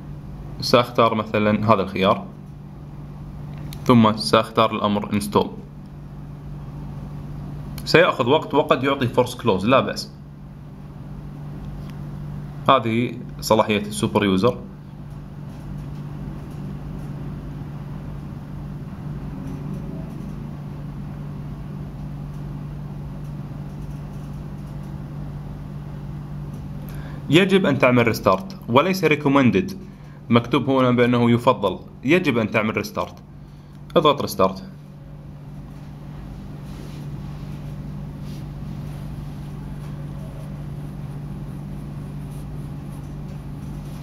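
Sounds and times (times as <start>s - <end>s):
low background hum: 0.0s - 44.0s.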